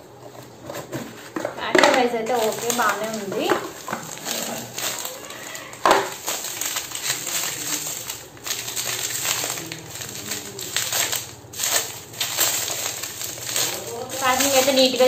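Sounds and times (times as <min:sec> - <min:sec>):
bubble wrap crinkling: 0:00.4 - 0:15.0.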